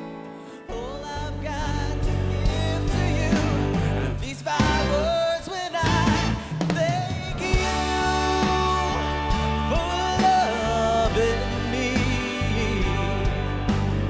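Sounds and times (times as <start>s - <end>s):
band accompaniment: 0.0s - 14.0s
man singing into microphone: 0.5s - 13.8s.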